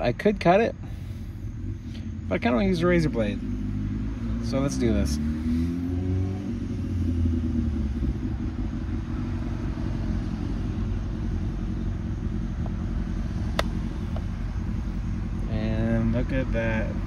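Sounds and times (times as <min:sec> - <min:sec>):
car engine: 0:00.0 - 0:17.0
road traffic rumbling: 0:00.0 - 0:17.0.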